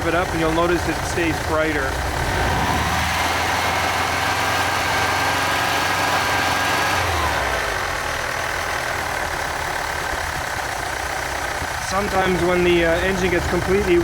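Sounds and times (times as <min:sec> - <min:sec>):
flat-four engine running: 0:00.0 - 0:14.0.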